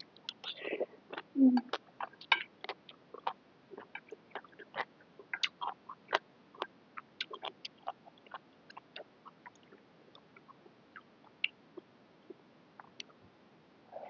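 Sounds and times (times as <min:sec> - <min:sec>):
chewing food: 0:00.0 - 0:13.1.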